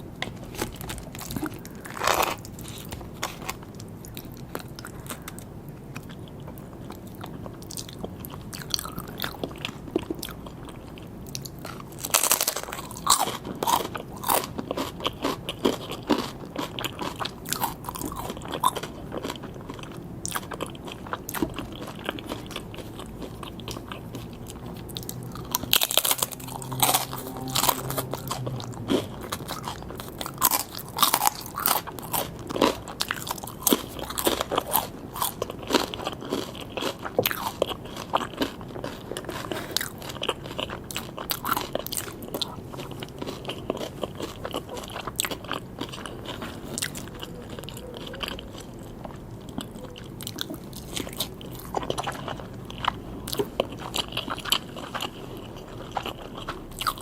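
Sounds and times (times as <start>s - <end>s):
crunchy chewing: 0.2s - 57.0s.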